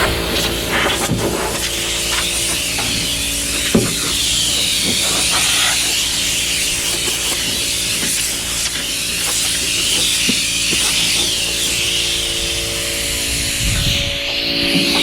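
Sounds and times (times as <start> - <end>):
blower air rushing: 0.0 - 15.0.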